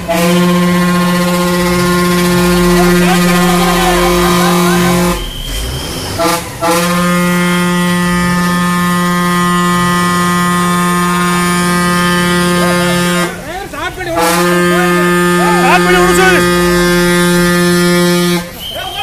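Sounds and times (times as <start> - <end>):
vehicle horn blast: 0.0 - 19.0.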